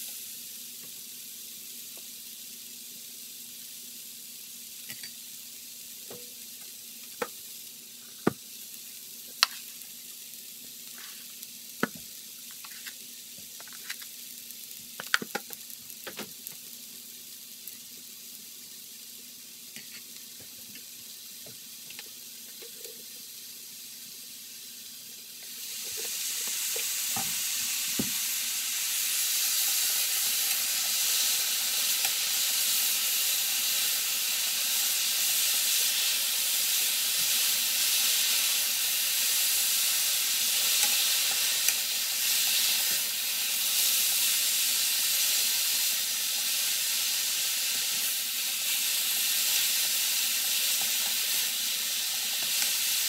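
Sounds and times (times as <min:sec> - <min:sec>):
carrots sizzling in a hot pan: 0:00.0 - 0:53.0.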